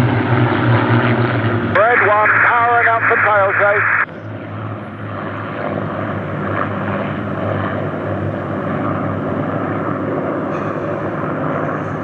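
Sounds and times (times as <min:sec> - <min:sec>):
piston aircraft engines droning: 0:00.0 - 0:12.0.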